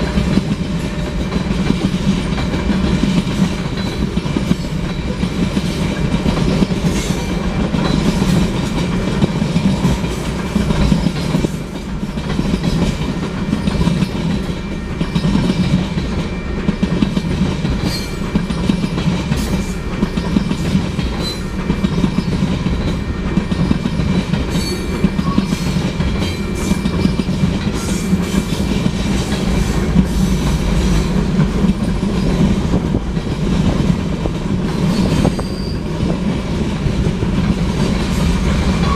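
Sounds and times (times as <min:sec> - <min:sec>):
train wheels rumbling on rails: 0:00.0 - 0:38.9
wheels clicking over rail joints: 0:00.0 - 0:38.9.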